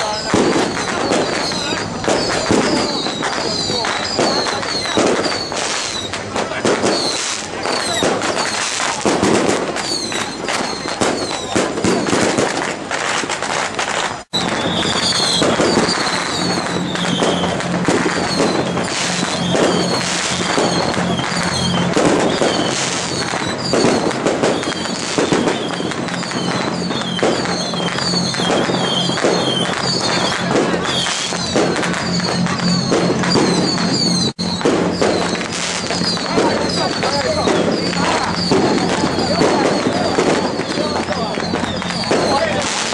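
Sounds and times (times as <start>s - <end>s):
firecrackers crackling: 0.0s - 42.9s.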